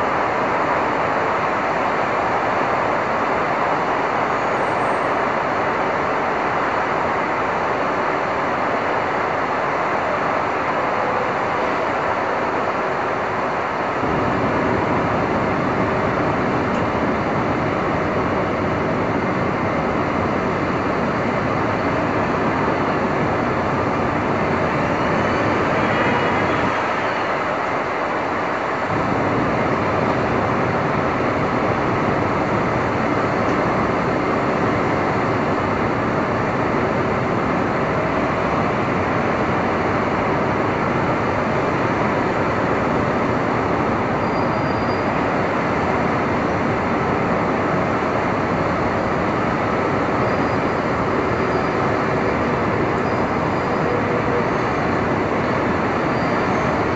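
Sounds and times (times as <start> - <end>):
stormy weather noise: 0.0 - 56.9
traffic noise: 0.0 - 56.9.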